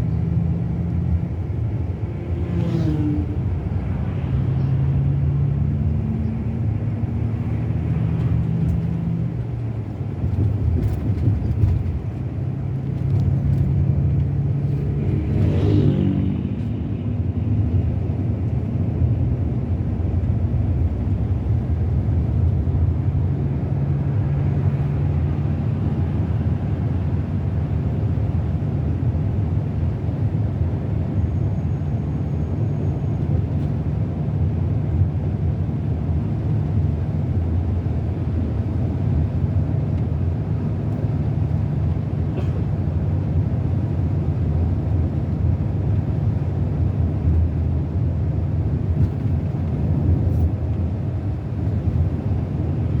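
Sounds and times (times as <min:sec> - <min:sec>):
bus engine running: 0:00.0 - 0:53.0
road noise: 0:00.0 - 0:53.0.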